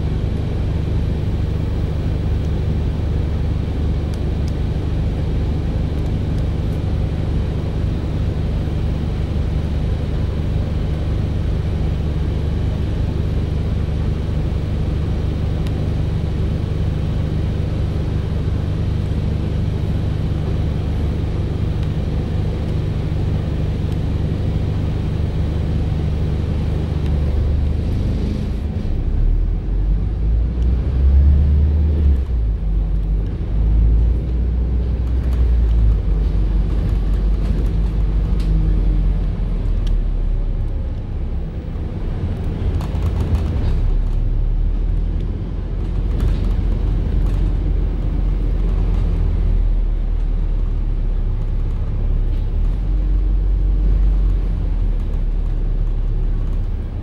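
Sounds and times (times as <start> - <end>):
bus diesel engine idling: 0.0 - 30.4, 31.8 - 57.0.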